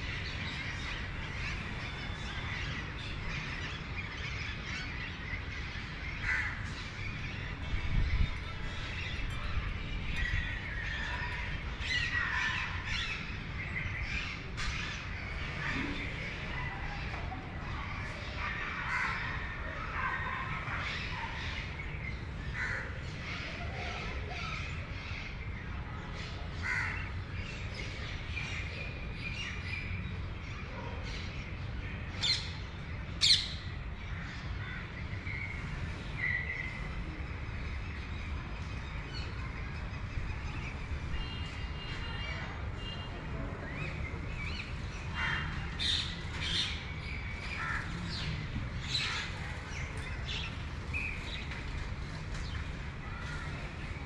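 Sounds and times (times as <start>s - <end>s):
birds calling: 0.0s - 25.7s, 31.1s - 54.0s.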